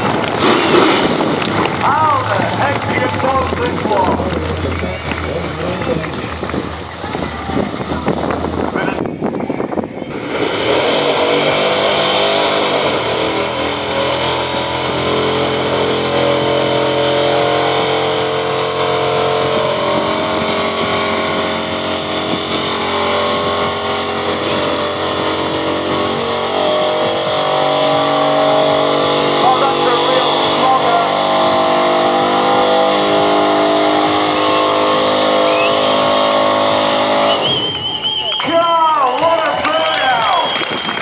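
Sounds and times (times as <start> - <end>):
car engine revving high: 0.0 - 38.4.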